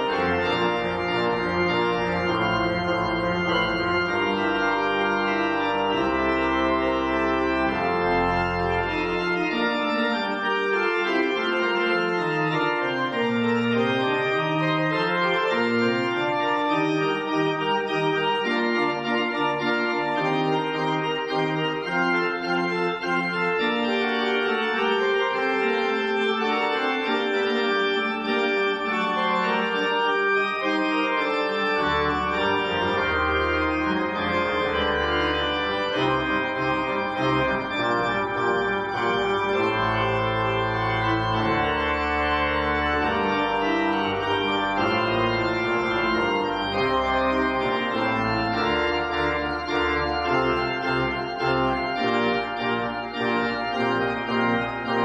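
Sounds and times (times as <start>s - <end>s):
deep organ pedal bass: 0.0s - 55.0s
pipe organ chords: 0.0s - 55.0s.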